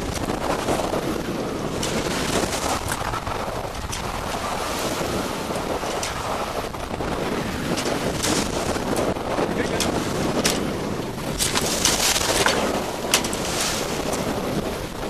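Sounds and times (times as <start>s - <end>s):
waves rushing against hull: 0.0s - 15.0s
wind buffeting microphone: 0.0s - 15.0s.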